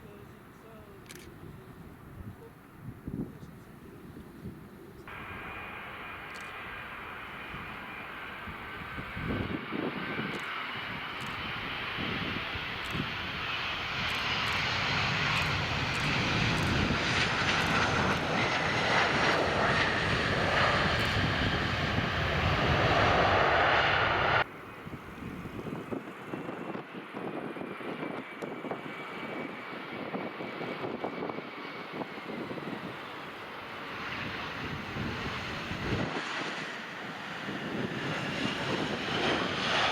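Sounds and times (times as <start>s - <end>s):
aircraft engines roaring: 0.0s - 39.9s
wind buffeting microphone: 1.2s - 39.9s.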